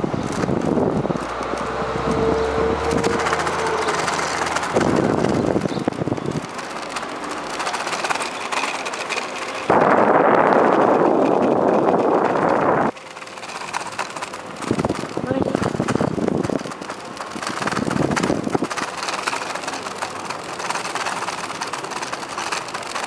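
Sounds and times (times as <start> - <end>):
bicycle clattering over wooden planks: 0.0 - 23.0
loud rush of noise: 0.0 - 23.0
wind noise on microphone: 0.0 - 23.0.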